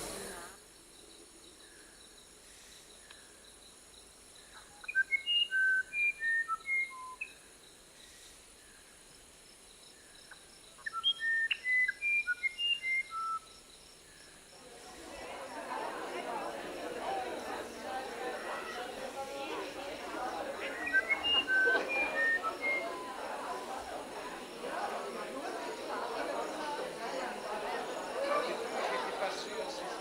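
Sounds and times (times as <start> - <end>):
faint steady hiss: 0.0 - 30.0
songbird singing: 0.0 - 30.0.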